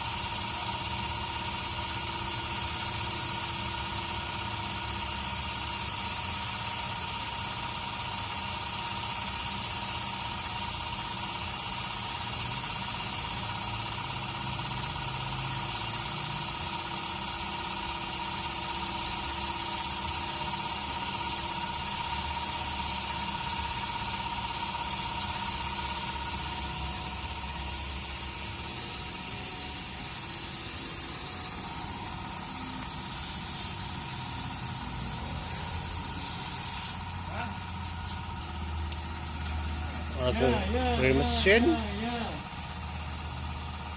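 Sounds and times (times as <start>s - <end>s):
spray gun hissing: 0.0s - 42.4s.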